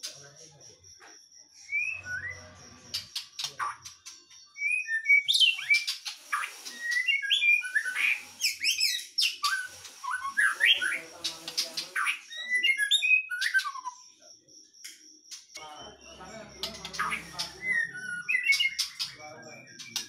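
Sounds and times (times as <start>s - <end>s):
songbird whistling and chirping: 1.5s - 14.1s, 15.6s - 20.0s.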